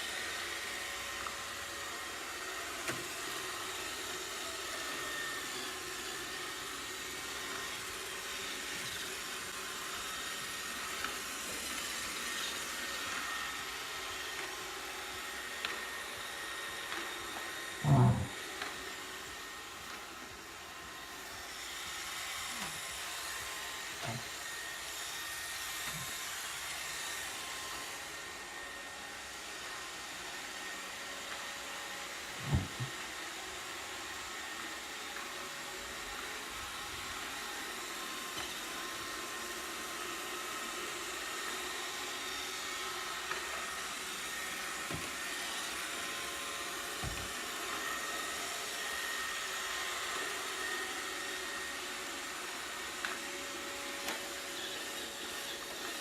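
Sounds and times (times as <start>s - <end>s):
robot vacuum whirring: 0.0s - 56.0s.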